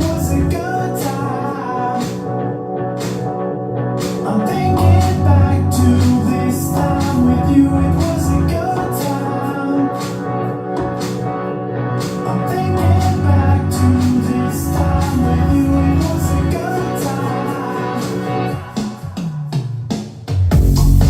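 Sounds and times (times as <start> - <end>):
song with heavy bass over speakers: 0.0 - 21.0.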